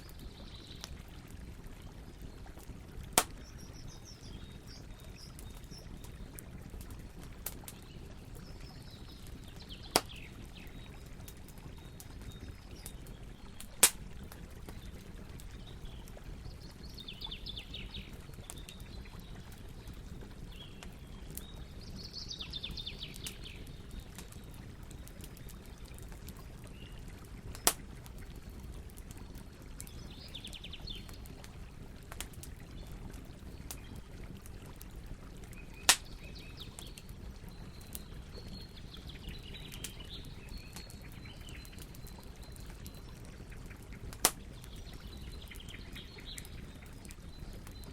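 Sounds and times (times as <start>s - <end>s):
campfire burning: 0.0s - 47.9s
fire popping: 0.1s - 21.8s, 23.0s - 30.0s, 31.0s - 47.9s.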